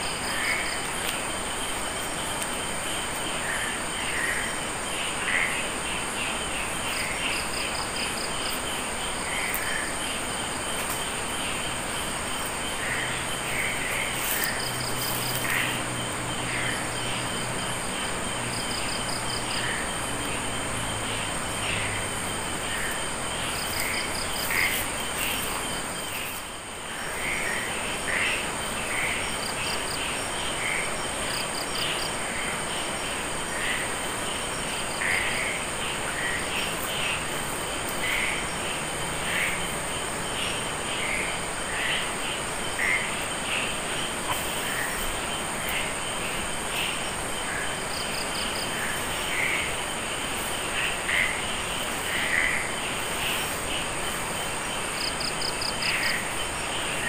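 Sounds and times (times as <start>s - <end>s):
crickets and insects droning: 0.0s - 57.0s
frogs calling: 0.0s - 57.0s.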